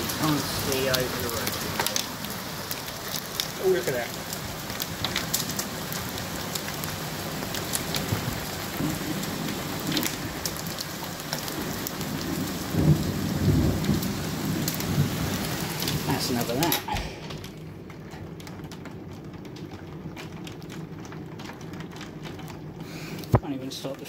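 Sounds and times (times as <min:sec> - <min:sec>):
thunder rumble: 0:00.0 - 0:23.8
hail and rain hissing: 0:00.0 - 0:24.0
hailstones clicking on window: 0:00.0 - 0:24.0.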